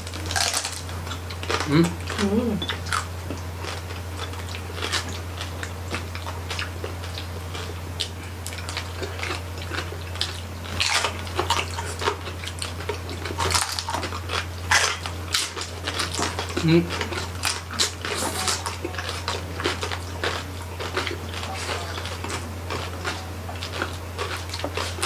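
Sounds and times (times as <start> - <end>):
people crunching crispy food: 0.0 - 25.0.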